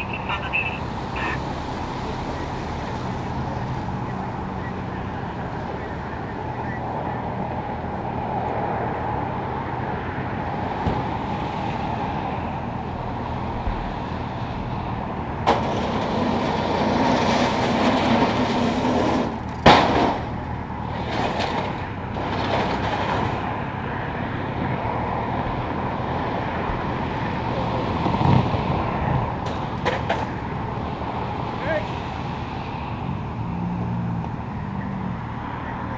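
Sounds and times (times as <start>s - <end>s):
freeway traffic passing: 0.0s - 35.9s.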